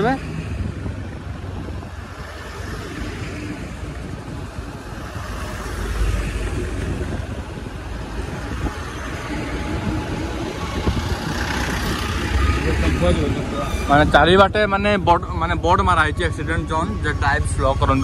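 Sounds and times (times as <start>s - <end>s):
heavy trucks passing: 0.0s - 18.0s
road and wind rush: 0.0s - 18.0s.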